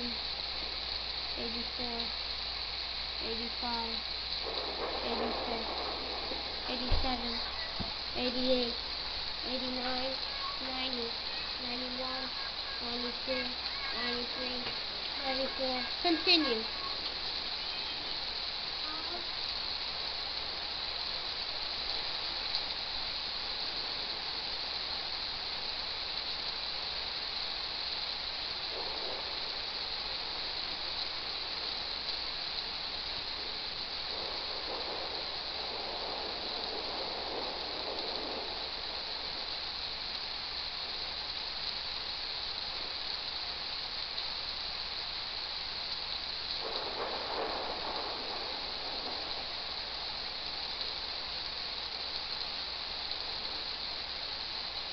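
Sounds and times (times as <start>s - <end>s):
rain hissing: 0.0s - 54.9s.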